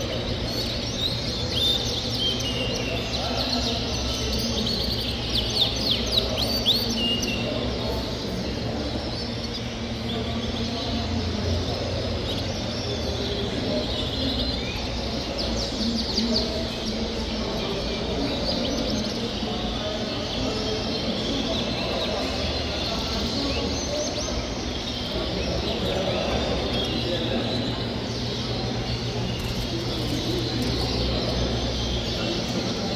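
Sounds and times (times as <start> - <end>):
canaries chirping and singing: 0.0 - 32.9
low background noise: 0.0 - 32.9.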